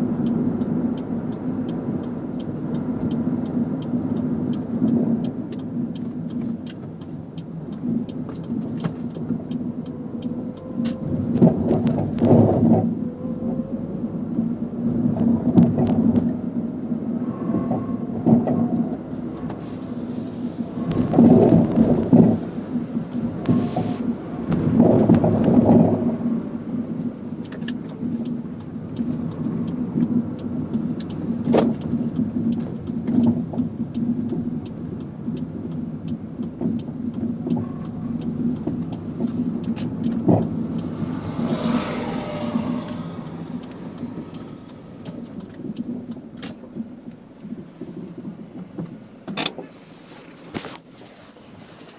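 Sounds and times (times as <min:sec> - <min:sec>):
car engine and road hum: 0:00.0 - 0:51.9.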